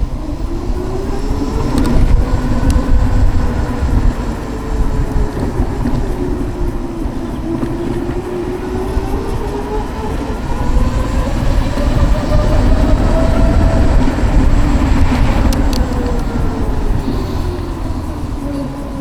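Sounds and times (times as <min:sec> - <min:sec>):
electric motor whine: 0:00.0 - 0:19.0
wind rumble on microphone: 0:00.0 - 0:19.0.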